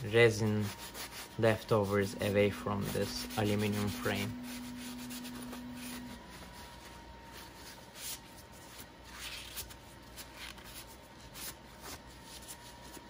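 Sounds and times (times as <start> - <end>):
paper towel wiping metal frame: 0.0 - 13.0.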